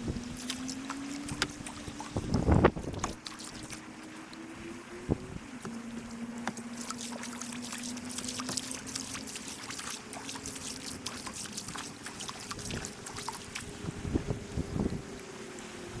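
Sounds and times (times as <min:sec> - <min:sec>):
water splashing and trickling: 0:00.0 - 0:16.0.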